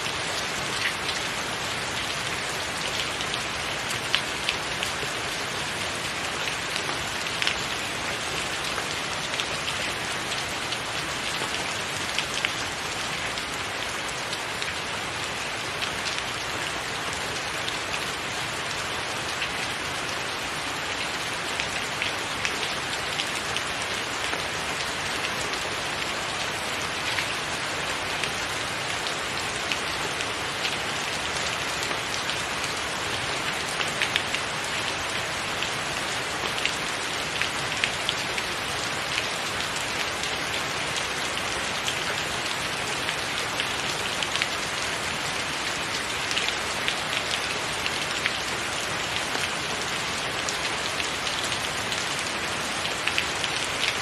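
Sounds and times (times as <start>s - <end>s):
heavy rain on a tiled roof: 0.0s - 54.0s.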